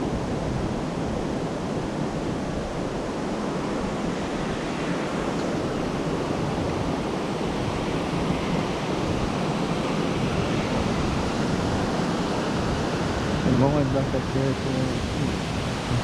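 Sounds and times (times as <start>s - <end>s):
rushing stream current: 0.0s - 16.0s.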